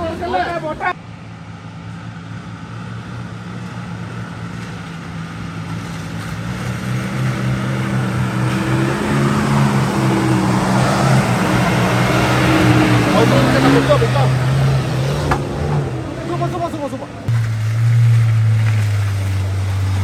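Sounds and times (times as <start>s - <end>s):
off-road engine at full throttle: 0.0s - 20.0s.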